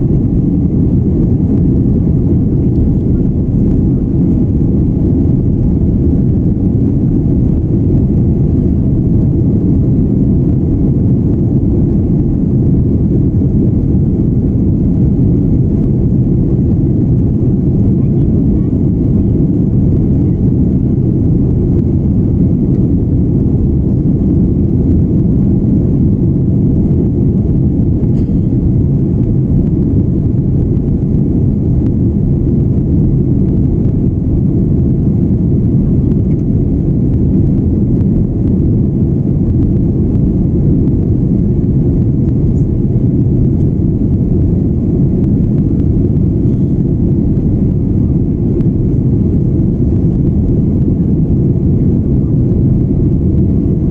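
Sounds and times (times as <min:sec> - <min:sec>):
jet engines and airflow rumble: 0:00.0 - 0:53.9.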